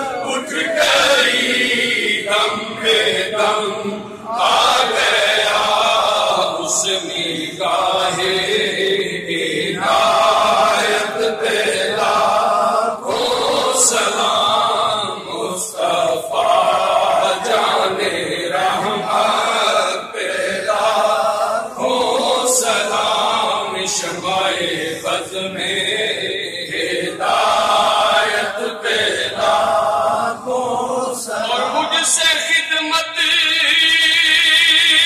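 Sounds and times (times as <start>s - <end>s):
men chanting devotional song: 0.0s - 35.0s.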